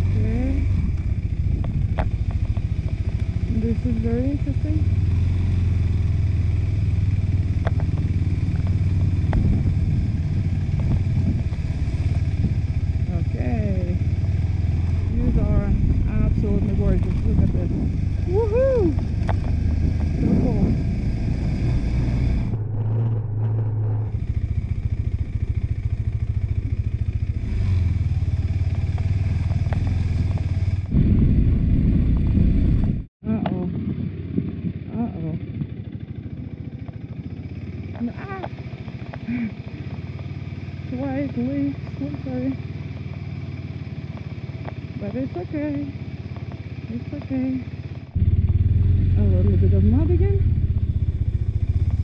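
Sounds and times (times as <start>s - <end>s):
motorcycle engine running at low revs: 0.0s - 52.0s.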